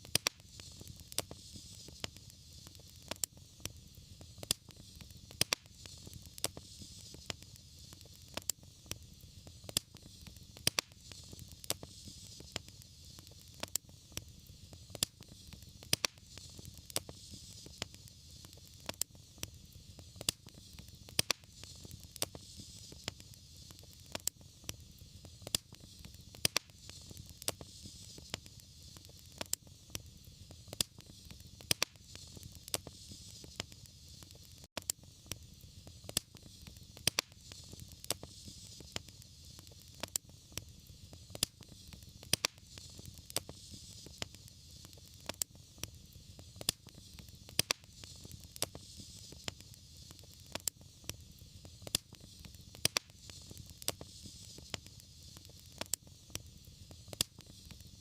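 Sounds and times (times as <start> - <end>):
fire crackling: 0.0 - 58.0
rushing hiss of fire: 0.0 - 58.0
sharp pops of fire: 0.0 - 58.0.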